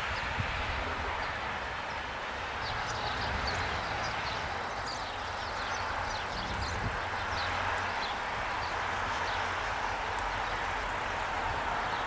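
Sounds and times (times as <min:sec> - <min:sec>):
small birds chirping: 0:01.0 - 0:10.9.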